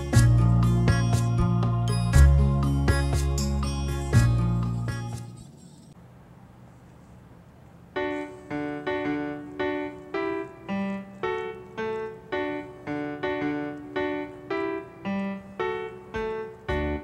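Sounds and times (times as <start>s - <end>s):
keyboard playing repeated chords: 0.0s - 5.4s, 8.0s - 17.0s.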